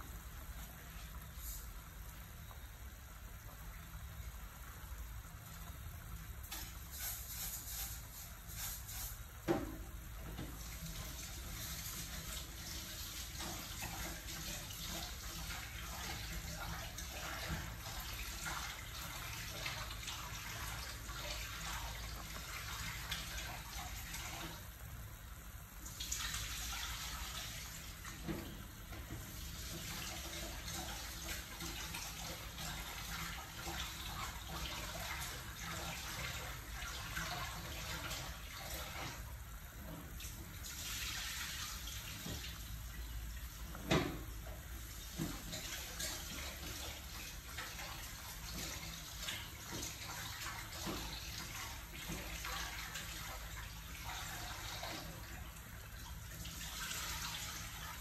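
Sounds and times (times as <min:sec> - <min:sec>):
soup boiling and bubbling: 0:00.0 - 0:58.0.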